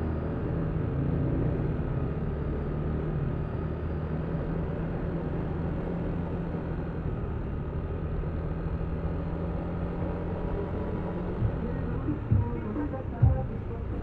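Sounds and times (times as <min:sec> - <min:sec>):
scooter engine cruising: 0:00.0 - 0:14.0
wind and road noise: 0:00.0 - 0:14.0.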